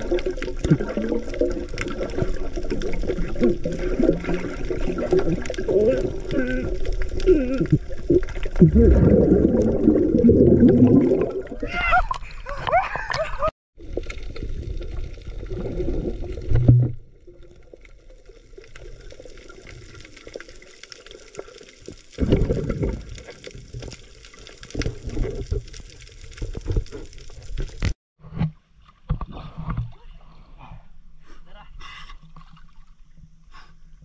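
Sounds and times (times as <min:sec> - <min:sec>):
sea water sloshing and gurgling: 0:00.0 - 0:28.0.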